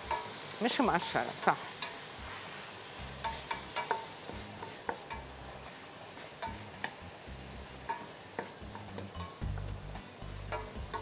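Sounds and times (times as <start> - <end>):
sauce sizzling: 0.0 - 11.0.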